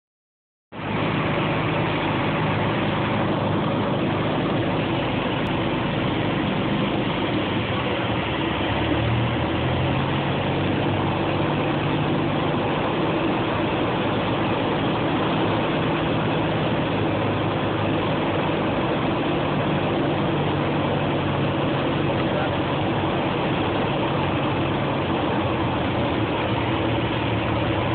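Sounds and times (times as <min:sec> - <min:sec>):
light aircraft engine droning: 0:00.7 - 0:27.9.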